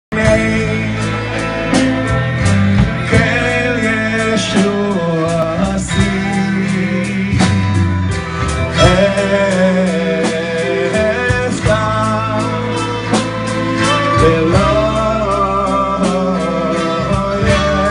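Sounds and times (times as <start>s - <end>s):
drum kit beat: 0.1s - 17.9s
electric and acoustic guitars: 0.1s - 17.9s
man singing: 0.1s - 17.9s.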